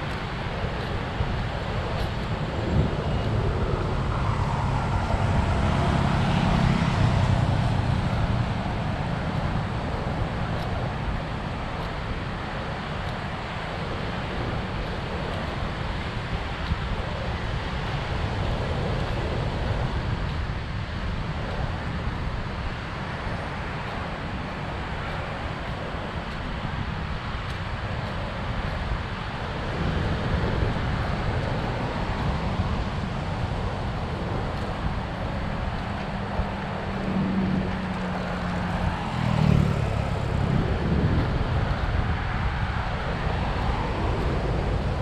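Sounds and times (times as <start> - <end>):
car engine hum: 0.0 - 16.5, 17.1 - 45.0
light road traffic: 0.0 - 45.0
wind rumbling on microphone: 0.0 - 45.0.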